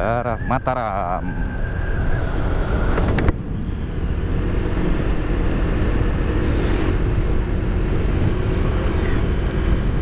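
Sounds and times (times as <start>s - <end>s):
road rumble: 0.0s - 10.0s
scooter engine drone: 0.0s - 10.0s
wind rush: 0.8s - 10.0s.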